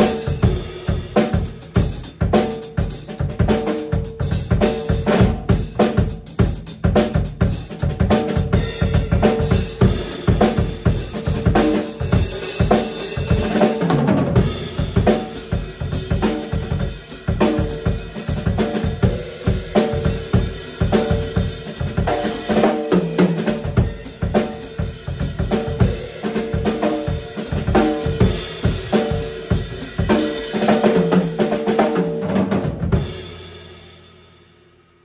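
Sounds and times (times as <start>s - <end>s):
drum kit groove: 0.0s - 34.3s.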